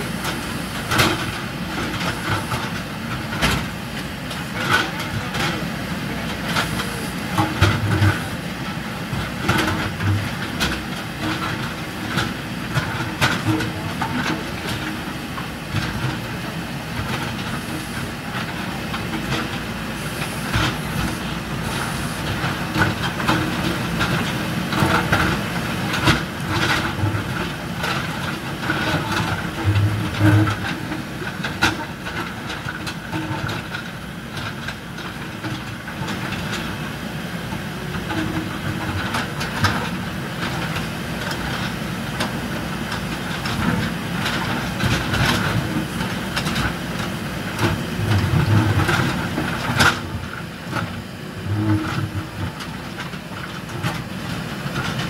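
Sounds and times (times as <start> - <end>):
diesel engines running under load: 0.0 - 55.0.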